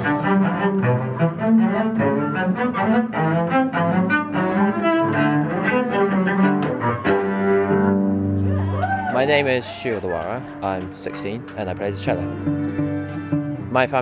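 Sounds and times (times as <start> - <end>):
bowed string music with cello: 0.0 - 14.0.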